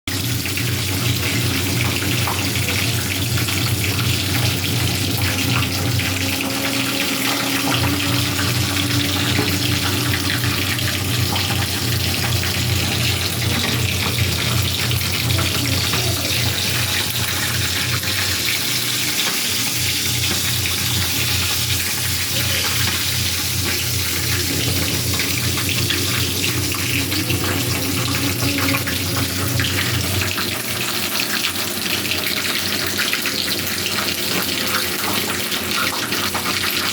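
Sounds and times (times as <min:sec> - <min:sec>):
food sizzling on a grill: 0:00.2 - 0:36.9.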